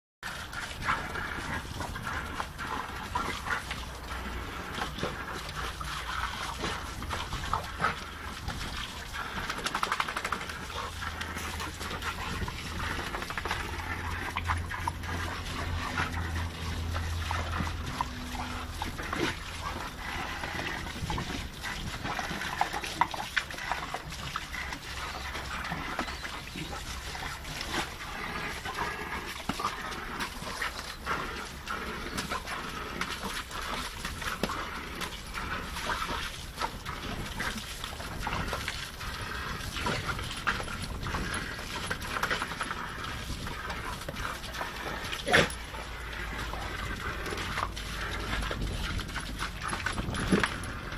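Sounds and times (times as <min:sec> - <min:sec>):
dog noises: 0:00.3 - 0:50.9
sprinkler water hissing and splashing: 0:00.3 - 0:50.9.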